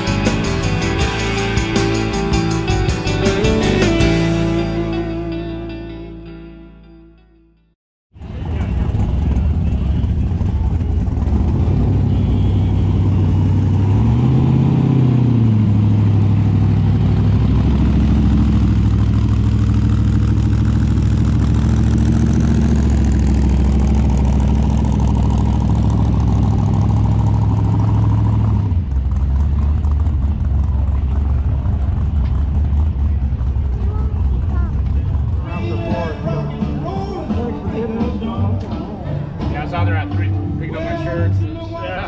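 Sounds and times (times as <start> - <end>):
car engine running: 0.0 - 5.8, 8.2 - 42.0.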